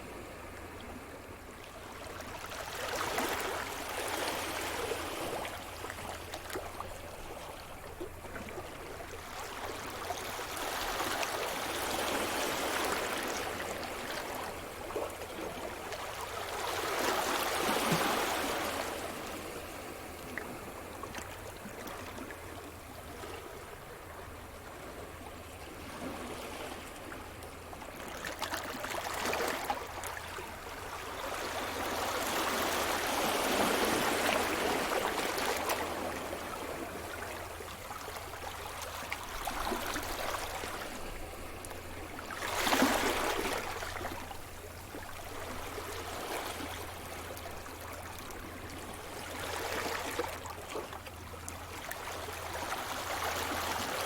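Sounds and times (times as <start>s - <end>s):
waves breaking on shore: 9.1s - 24.9s, 25.6s - 54.0s.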